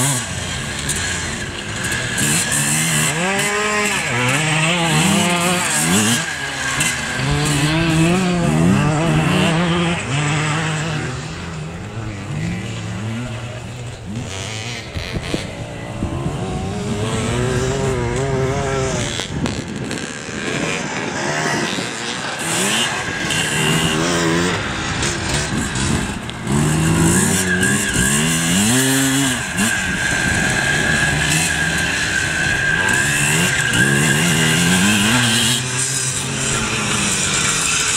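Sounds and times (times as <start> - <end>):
motorcycle engines revving: 0.0 - 37.9.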